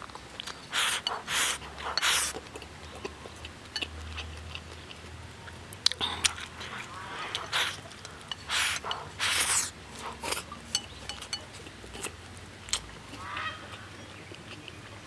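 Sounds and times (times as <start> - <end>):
person chewing and slurping: 0.0 - 5.2, 5.8 - 13.2.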